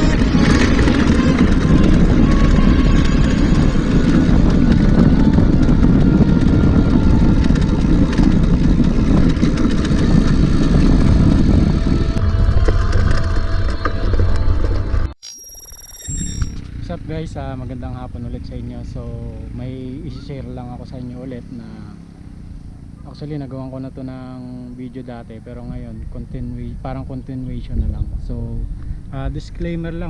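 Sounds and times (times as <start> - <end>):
wind buffeting microphone: 0.0 - 15.1, 17.0 - 30.0.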